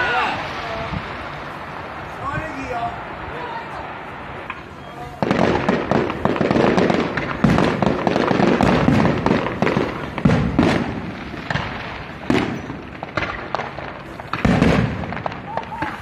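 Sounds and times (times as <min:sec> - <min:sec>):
fireworks booms: 0:00.0 - 0:16.0
fireworks crackles and bangs: 0:00.0 - 0:16.0.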